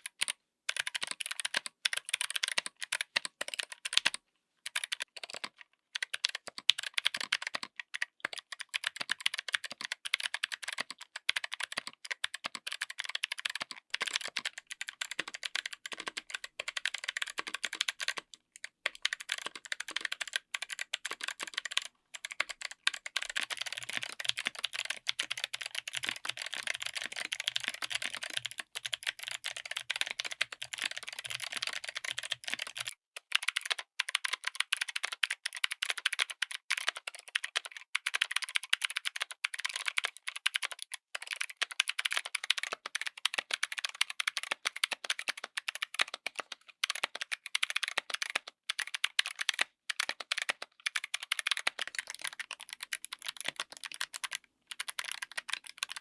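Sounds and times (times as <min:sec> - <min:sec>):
clicky mechanical keyboard typing: 0:00.0 - 0:56.0.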